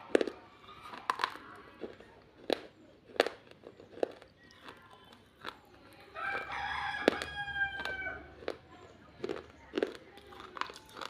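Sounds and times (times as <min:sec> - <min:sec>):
clay pot pieces being bitten: 0:00.0 - 0:11.0.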